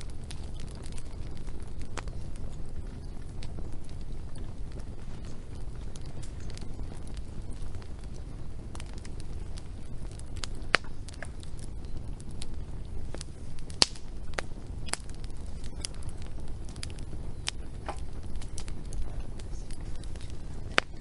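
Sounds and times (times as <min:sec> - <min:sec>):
low rumble: 0:00.0 - 0:21.0
sharp pops and snaps: 0:00.0 - 0:21.0
wood fire crackling: 0:00.0 - 0:21.0.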